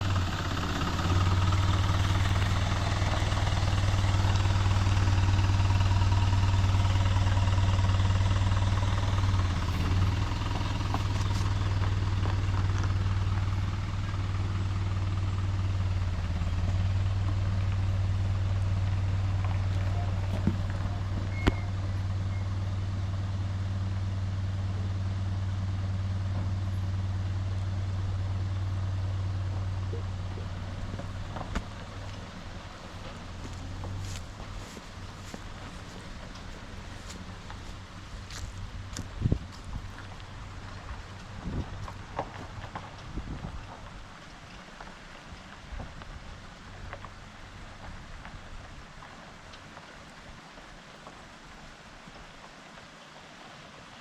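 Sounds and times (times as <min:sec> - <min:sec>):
truck engine humming: 0:00.0 - 0:51.6.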